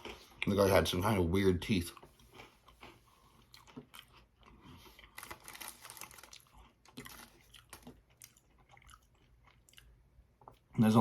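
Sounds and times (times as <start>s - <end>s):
chewing crunchy biscuit sticks: 1.6s - 10.8s.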